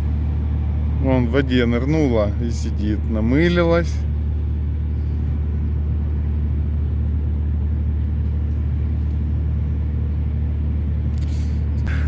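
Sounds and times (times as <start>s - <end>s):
ship machinery drone: 0.0s - 12.0s.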